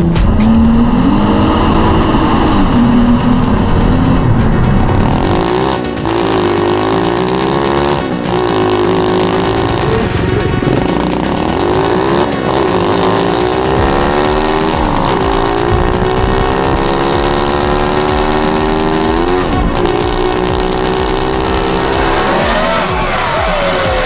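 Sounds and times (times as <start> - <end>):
small motorbike engine accelerating: 0.0 - 24.0.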